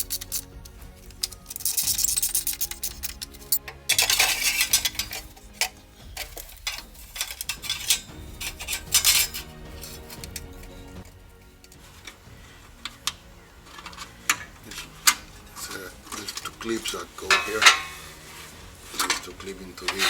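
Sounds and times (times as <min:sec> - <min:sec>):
metal tools clinking: 0:00.0 - 0:20.0.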